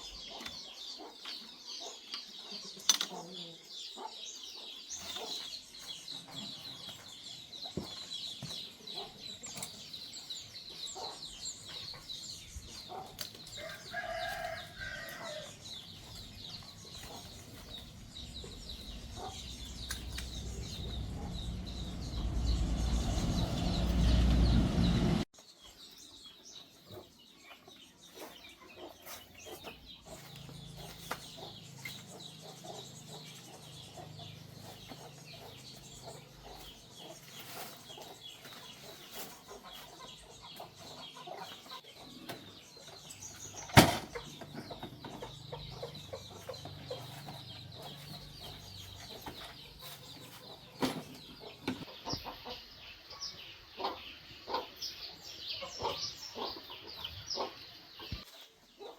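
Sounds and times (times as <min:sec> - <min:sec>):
chickens clucking: 0:00.0 - 0:25.2, 0:26.8 - 0:58.9.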